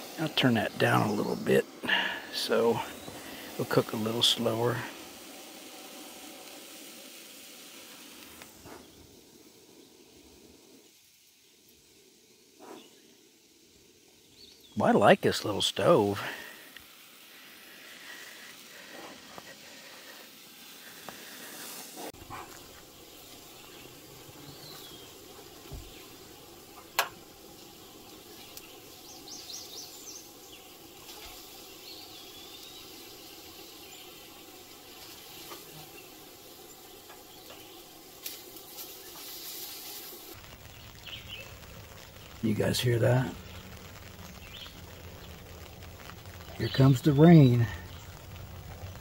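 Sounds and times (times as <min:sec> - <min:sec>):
birds chirping: 0:00.0 - 0:06.8, 0:14.1 - 0:49.0
meat sizzling in a pan: 0:00.0 - 0:10.1, 0:10.8 - 0:49.0.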